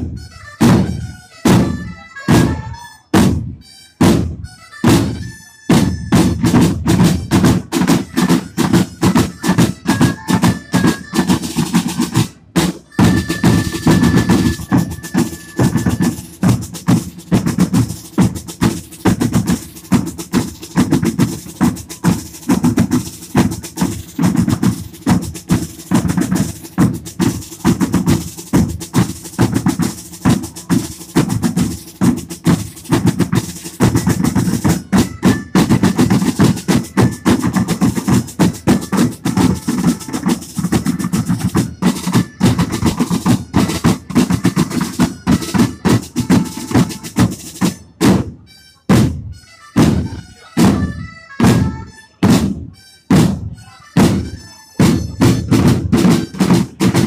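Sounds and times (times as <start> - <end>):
side drums marching rhythm: 0.0 - 57.0.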